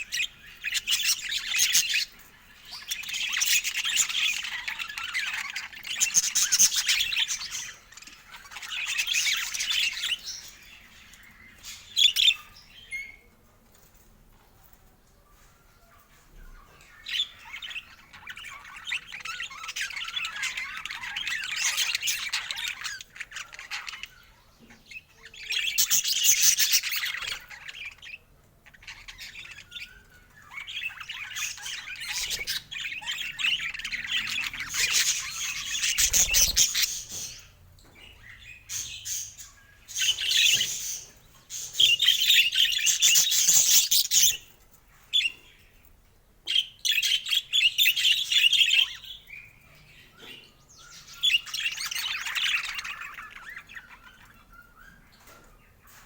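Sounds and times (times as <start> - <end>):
budgerigars chattering and squawking: 0.0 - 13.2, 16.3 - 45.7, 46.4 - 56.0.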